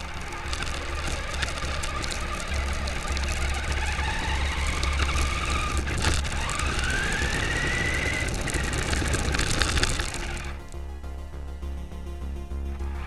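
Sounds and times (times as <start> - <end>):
electric motor whining: 0.0 - 10.8
rumble and rattling knocks: 0.0 - 10.8.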